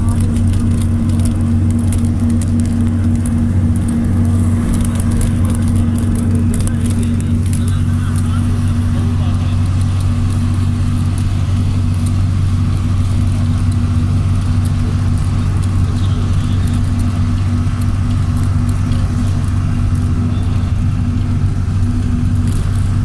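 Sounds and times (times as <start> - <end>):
bus engine and road drone: 0.0 - 23.0
light ticks and rattles: 0.0 - 23.0
low hum: 0.0 - 23.0.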